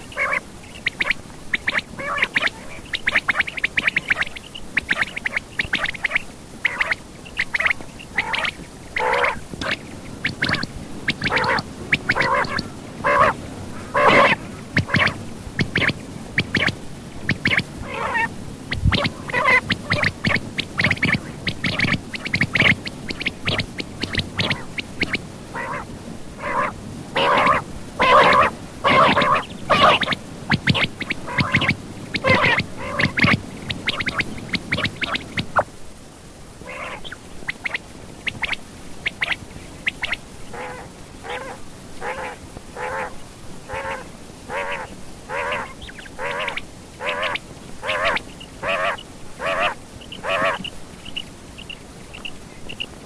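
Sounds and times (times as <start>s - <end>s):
quail calling: 0.0s - 35.7s, 36.6s - 53.0s
background noise: 0.0s - 53.0s.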